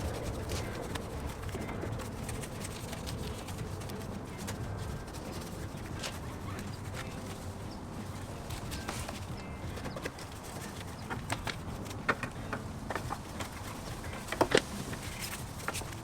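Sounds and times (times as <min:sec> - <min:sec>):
brush scrubbing: 0:00.0 - 0:16.0.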